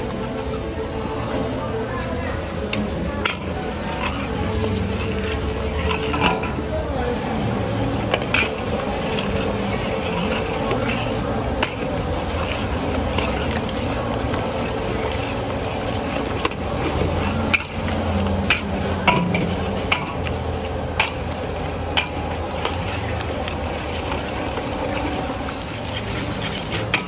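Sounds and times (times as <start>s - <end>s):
ladles scraping a wok: 2.3s - 27.0s
eggs sizzling: 2.8s - 6.6s, 7.3s - 27.0s.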